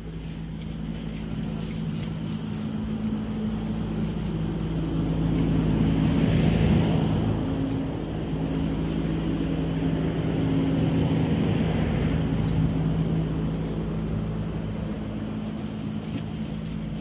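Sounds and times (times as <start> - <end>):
traffic noise: 0.0 - 17.0
vehicle engine running: 0.0 - 17.0.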